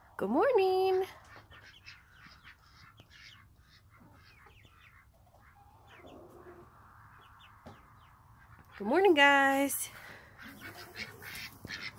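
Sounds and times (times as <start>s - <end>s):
chickens chirping softly: 0.2s - 11.9s
chickens low calls: 1.1s - 8.9s, 10.0s - 11.9s.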